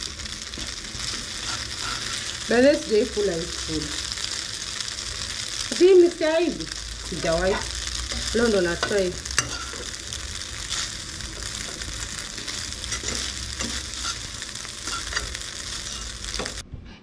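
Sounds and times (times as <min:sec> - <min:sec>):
food sizzling in frying pan: 0:00.0 - 0:16.6.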